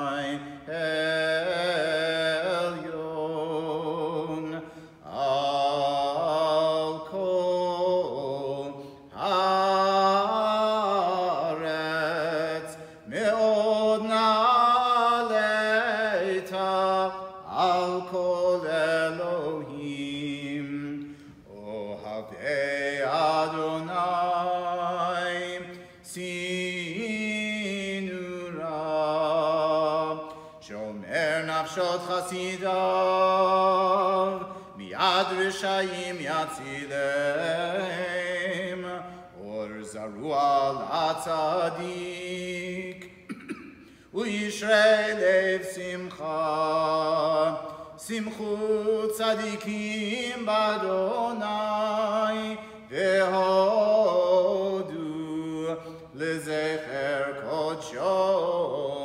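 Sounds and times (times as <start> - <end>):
man chanting: 0.0 - 43.3, 44.0 - 59.0.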